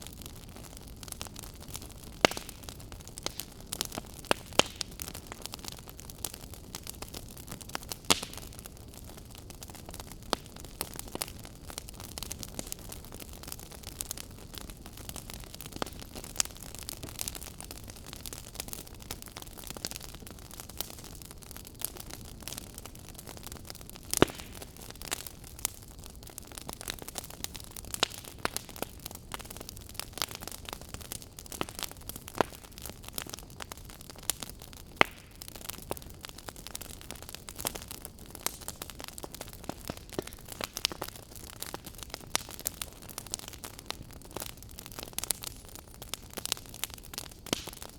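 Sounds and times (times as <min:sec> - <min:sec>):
fire crackling in fireplace: 0:00.0 - 0:47.9.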